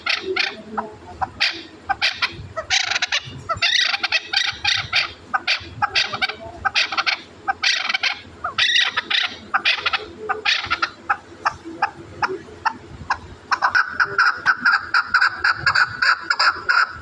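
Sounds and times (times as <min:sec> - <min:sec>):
partridge chick calling: 0:00.0 - 0:17.0.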